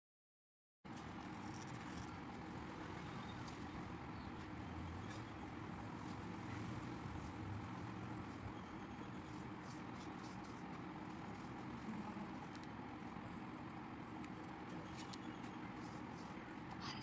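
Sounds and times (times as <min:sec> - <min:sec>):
low rumble and hiss: 0:00.9 - 0:17.0.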